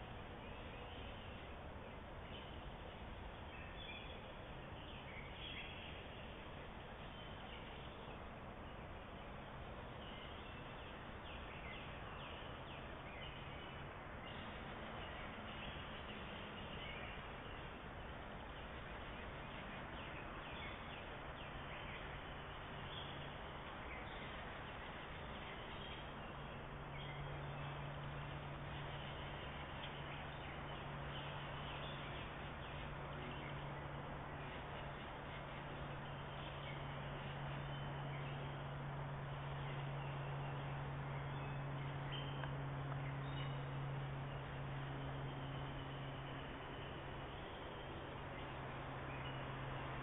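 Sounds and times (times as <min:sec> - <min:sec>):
low steady hum: 0:00.0 - 0:50.0
steady background hiss: 0:00.0 - 0:50.0.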